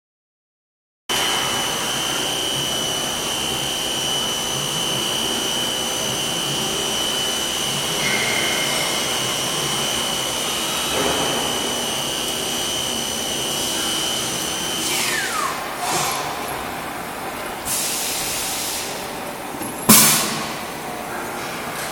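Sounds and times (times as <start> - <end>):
milling machine whining: 1.1 - 21.9.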